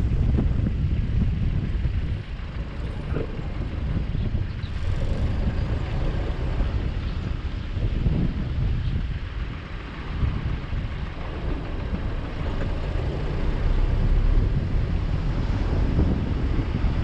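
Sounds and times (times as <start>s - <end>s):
rumbling motor vehicle noise: 0.0s - 17.0s.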